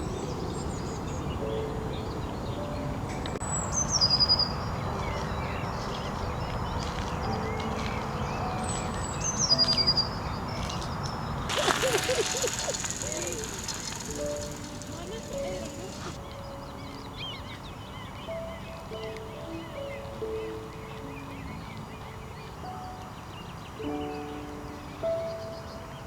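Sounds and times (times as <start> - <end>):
small songbird singing: 0.0 - 22.5.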